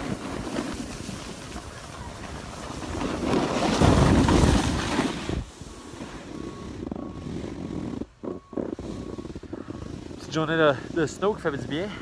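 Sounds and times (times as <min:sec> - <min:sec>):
wind rushing over microphone: 0:00.0 - 0:11.9
snowboard sliding over snow: 0:00.0 - 0:12.0.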